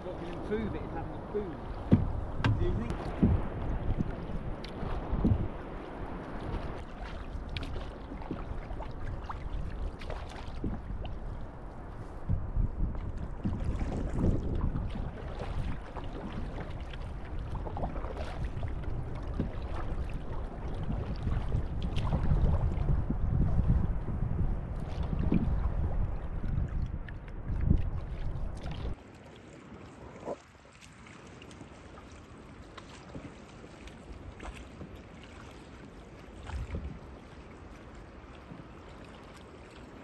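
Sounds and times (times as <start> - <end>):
wind rumble on microphone: 0.0 - 29.0, 31.4 - 40.0
paddles splashing in water: 0.0 - 40.0
water lapping against hull: 0.0 - 40.0.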